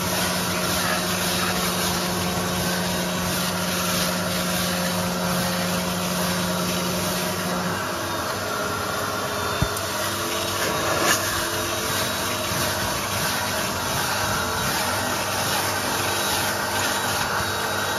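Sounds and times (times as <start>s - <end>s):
vacuum motors sucking: 0.0s - 17.9s.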